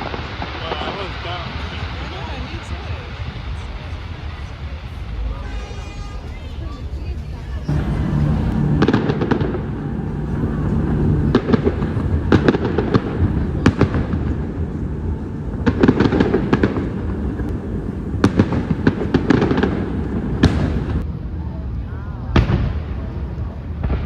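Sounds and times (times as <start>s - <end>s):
fireworks banging and crackling: 0.0s - 21.1s, 22.3s - 24.0s
low rumble: 0.0s - 24.0s.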